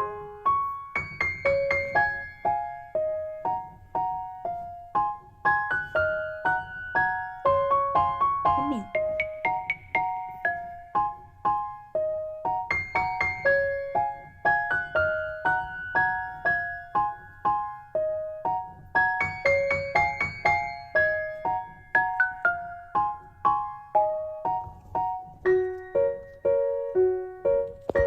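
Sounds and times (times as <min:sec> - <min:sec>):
light piano melody: 0:00.0 - 0:28.0.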